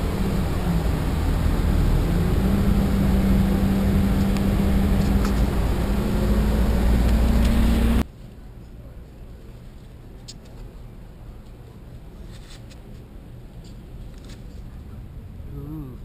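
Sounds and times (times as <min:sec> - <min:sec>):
low steady hum: 0:00.0 - 0:16.0
vehicle interior rumble and hiss: 0:00.0 - 0:16.0.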